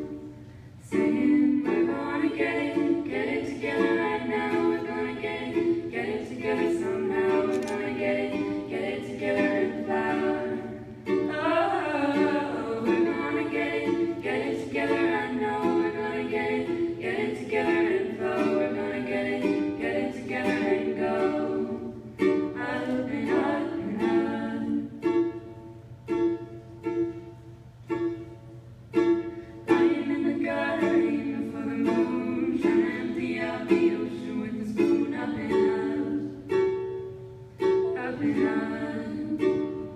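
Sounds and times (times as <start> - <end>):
women singing in harmony: 0.0 - 25.5, 29.6 - 36.9, 37.7 - 39.9
strummed acoustic string instrument: 0.0 - 39.9.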